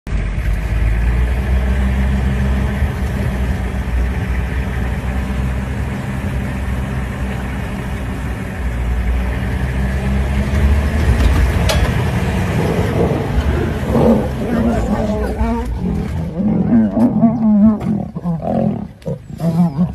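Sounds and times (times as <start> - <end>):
vehicle engine idling: 0.1 - 19.9.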